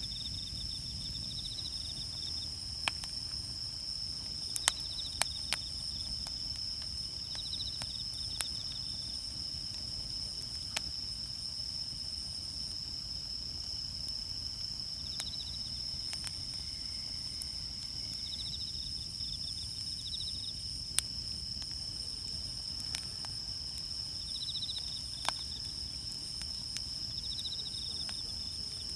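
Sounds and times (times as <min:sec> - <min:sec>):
insects droning and trilling: 0:00.0 - 0:28.9
campfire crackling and popping: 0:00.1 - 0:28.9.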